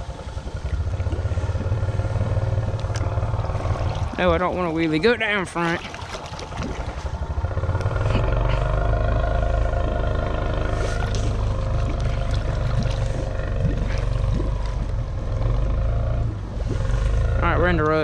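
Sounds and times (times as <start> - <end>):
atv engine pulling through water: 0.0 - 18.0.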